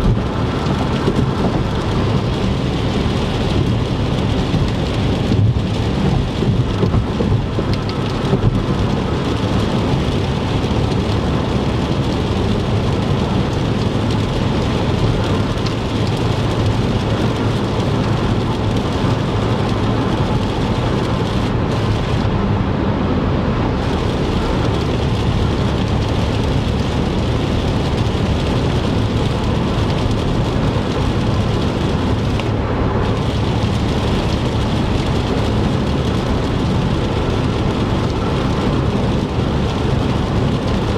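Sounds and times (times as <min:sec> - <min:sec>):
rain hitting car: 0:00.0 - 0:40.9
road and tyre rumble: 0:00.0 - 0:40.9.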